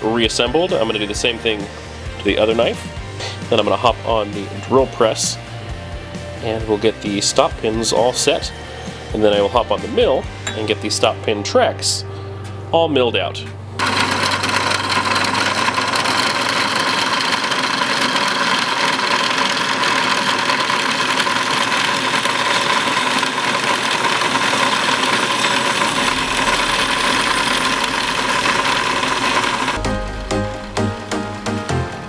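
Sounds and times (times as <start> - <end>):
drill press whining: 0.0 - 11.2, 13.8 - 32.0.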